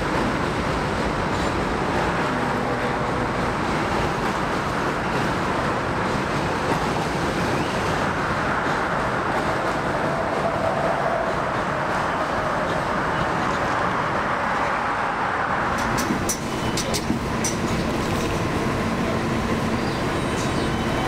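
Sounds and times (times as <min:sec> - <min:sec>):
car traffic hum: 0:00.0 - 0:21.0
subway train rumbling: 0:00.0 - 0:21.0.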